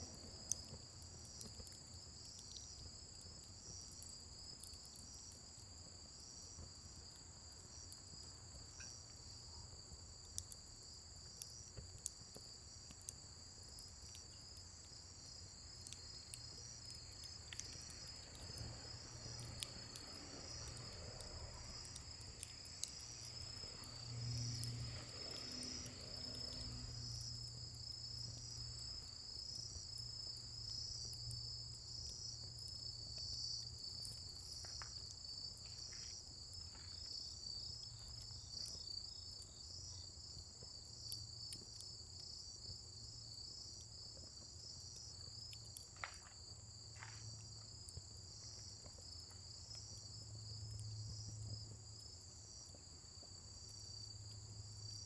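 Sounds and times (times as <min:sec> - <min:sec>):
wood fire crackling: 0:00.0 - 0:53.7
crickets chirping: 0:00.0 - 0:55.0.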